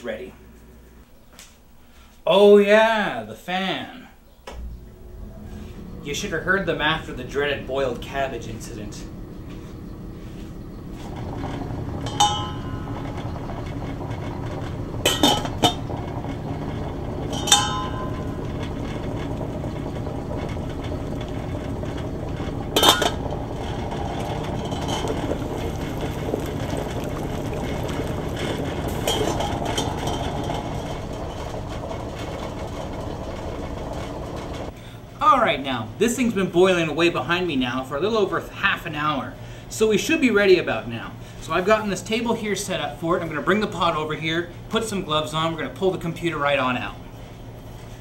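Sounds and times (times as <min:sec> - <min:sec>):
fume hood fan rushing: 0:00.0 - 0:48.0.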